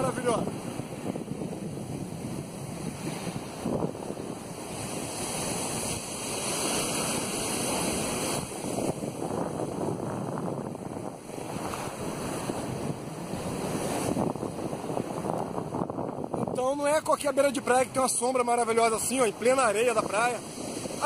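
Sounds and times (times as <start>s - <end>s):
ocean surf breaking on sand: 0.0s - 21.0s
wind buffeting microphone: 0.0s - 21.0s.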